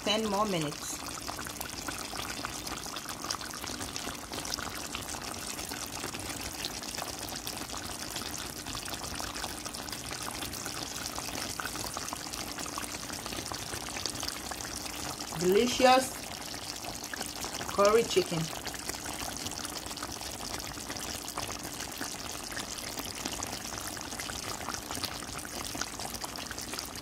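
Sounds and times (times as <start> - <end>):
gravy bubbling in a pot: 0.0 - 27.0.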